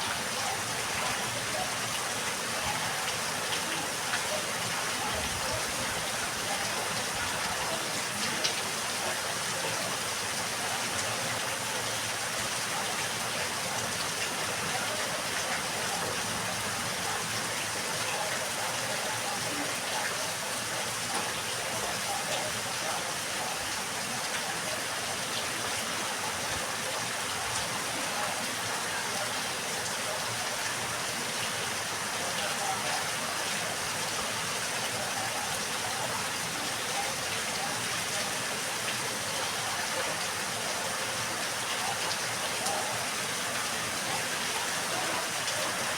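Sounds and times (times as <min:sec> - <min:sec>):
running water gushing: 0:00.0 - 0:45.9
steady rain: 0:00.0 - 0:45.9.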